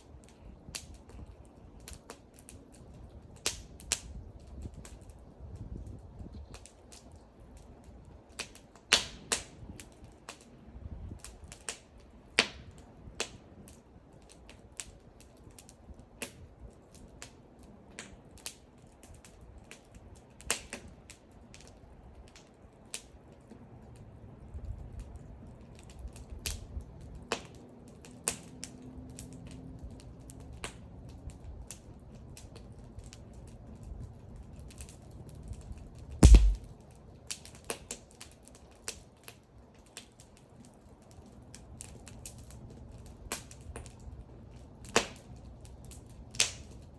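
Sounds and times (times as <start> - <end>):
low rumble of burning: 0.0 - 46.9
wood fire crackling: 0.0 - 46.9.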